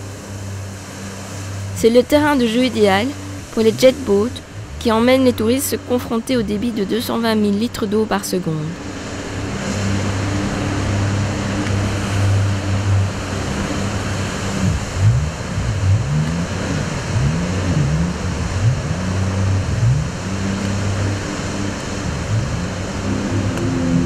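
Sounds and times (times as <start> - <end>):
boat engine revving: 0.0 - 24.0
fast river water rushing: 0.0 - 24.0.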